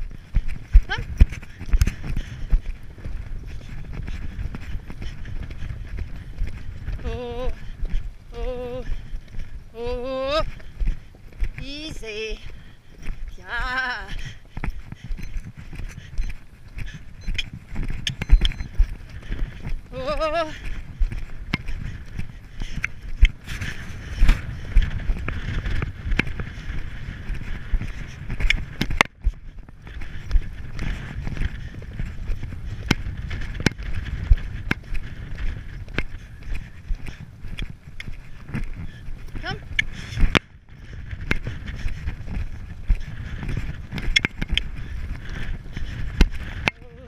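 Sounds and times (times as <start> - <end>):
horse hoofbeats on grass: 0.0 - 47.0
wind on microphone: 0.0 - 47.0.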